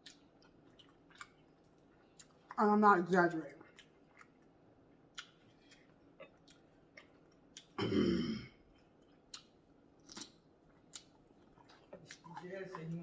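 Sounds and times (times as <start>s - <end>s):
chewing clicks and smacks: 0.0s - 2.6s, 3.6s - 7.8s, 8.8s - 13.0s.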